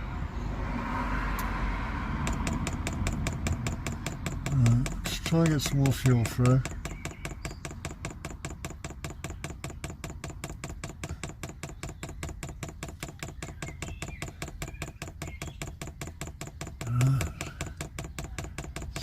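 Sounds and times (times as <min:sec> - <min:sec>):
fuel pump ticking: 0:02.1 - 0:19.0.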